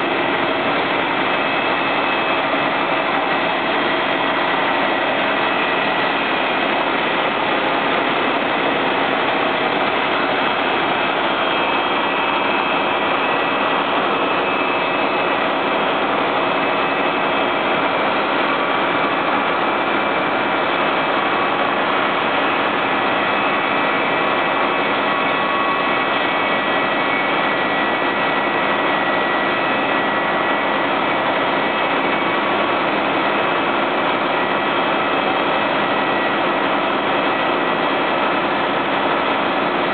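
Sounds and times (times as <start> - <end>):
fire engine pump drone: 0.0 - 39.9.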